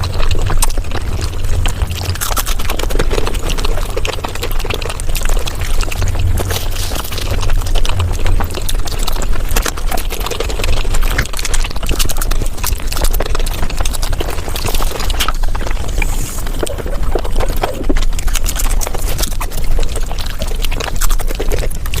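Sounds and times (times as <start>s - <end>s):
wet chewing and smacking: 0.0s - 22.0s.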